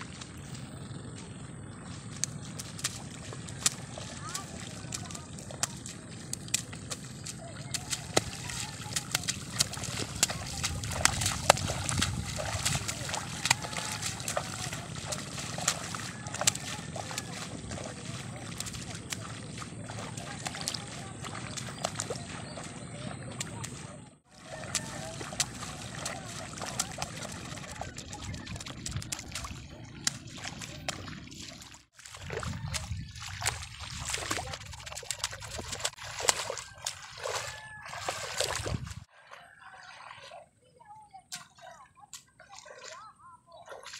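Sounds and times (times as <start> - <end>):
feet wading through water and mud: 0.0 - 43.9
seedling bundles splashing onto water: 2.0 - 40.4, 41.3 - 43.9.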